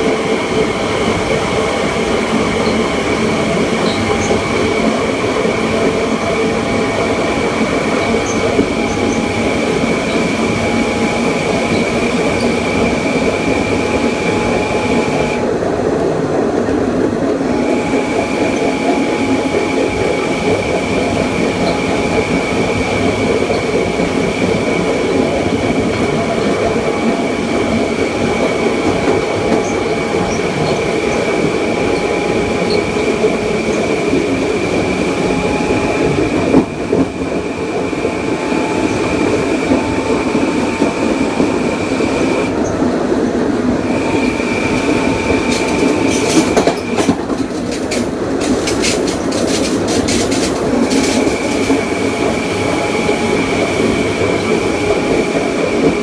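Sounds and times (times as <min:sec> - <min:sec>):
electric train motor whine: 0:00.0 - 0:15.6, 0:17.3 - 0:42.8, 0:43.8 - 0:56.0
wheels rumbling on track: 0:00.0 - 0:56.0.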